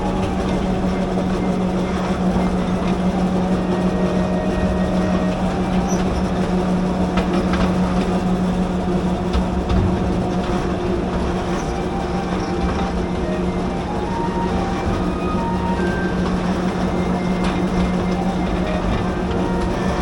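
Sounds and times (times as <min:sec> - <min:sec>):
low diesel drone: 0:00.0 - 0:20.0
train wheels rumbling on track: 0:00.0 - 0:20.0.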